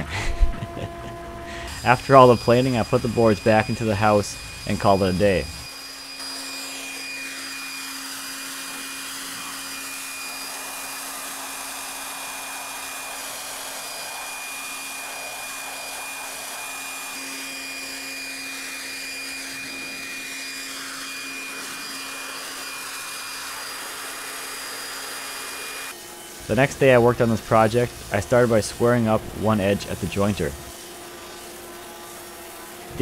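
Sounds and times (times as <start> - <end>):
leaf blower whining: 0.0 - 33.0.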